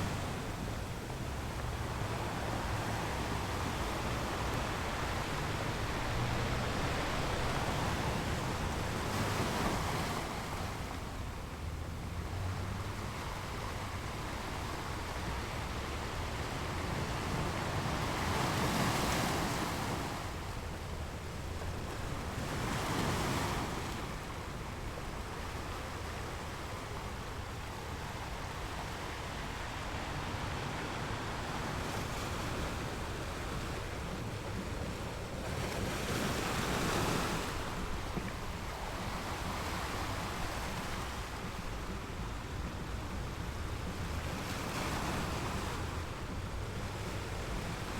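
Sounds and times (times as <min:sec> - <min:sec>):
ocean waves breaking on shore: 0:00.0 - 0:47.9.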